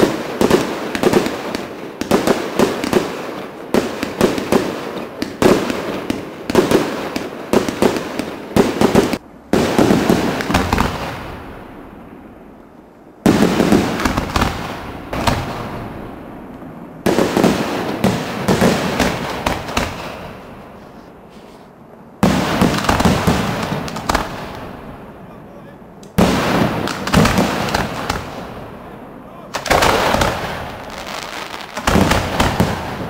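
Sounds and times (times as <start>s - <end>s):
fireworks bursting with bangs: 0.0s - 12.3s, 13.2s - 33.0s.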